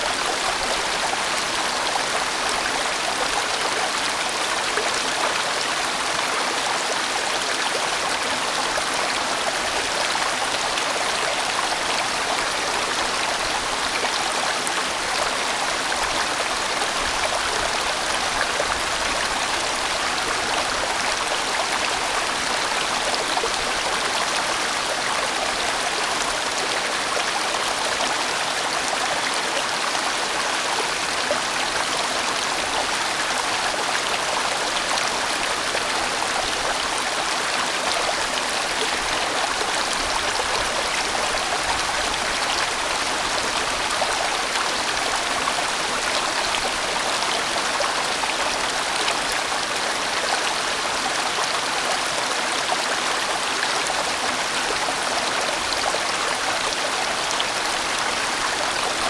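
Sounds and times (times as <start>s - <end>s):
mountain stream rushing over rocks: 0.0s - 59.0s.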